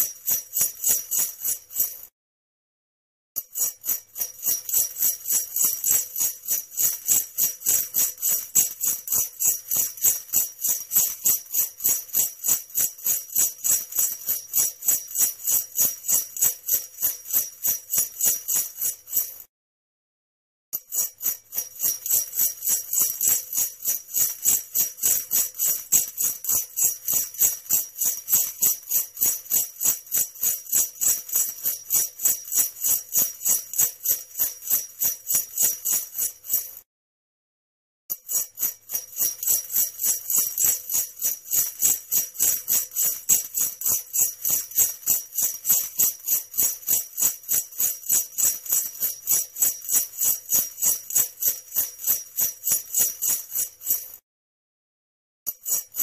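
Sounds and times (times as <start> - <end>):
sleigh bells jingling: 0.0 - 2.1, 3.4 - 19.4, 20.8 - 36.8, 38.1 - 54.2, 55.5 - 56.0.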